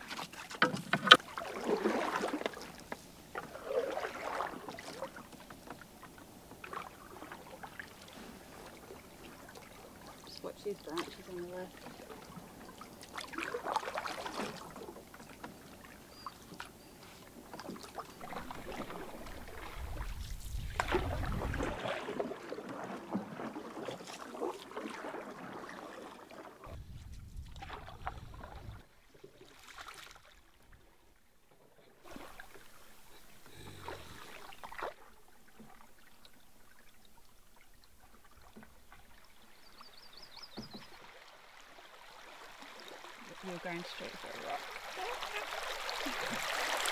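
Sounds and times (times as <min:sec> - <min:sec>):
paddle strokes and splashing: 0:00.0 - 0:46.9.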